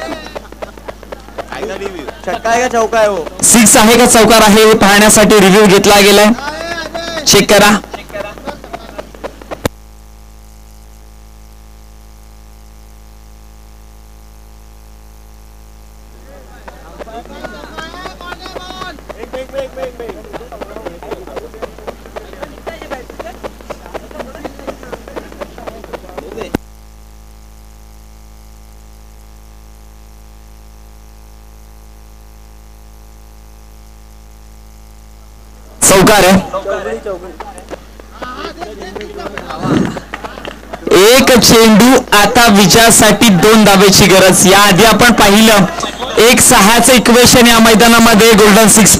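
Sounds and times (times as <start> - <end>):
steady electrical buzz: 0.0 - 48.9.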